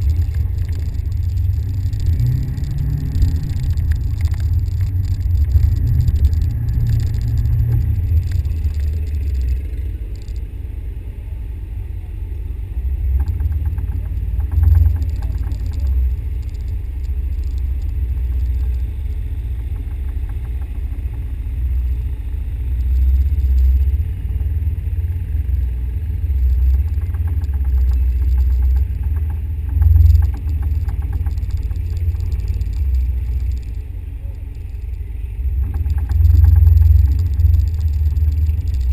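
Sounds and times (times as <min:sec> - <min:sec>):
low vehicle rumble: 0:00.0 - 0:38.9.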